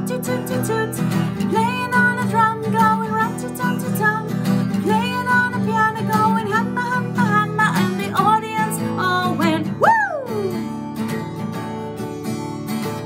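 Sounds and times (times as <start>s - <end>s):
woman singing: 0.0s - 10.8s
acoustic guitar strumming: 0.0s - 13.0s.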